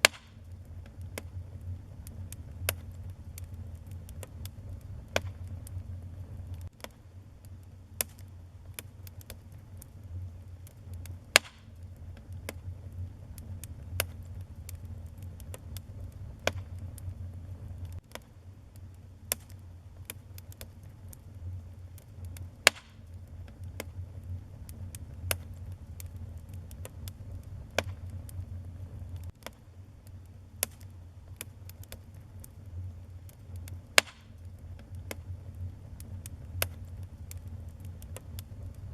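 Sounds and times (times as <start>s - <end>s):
burning wood crackling and popping: 0.0s - 38.9s
flames rumbling: 0.0s - 38.9s.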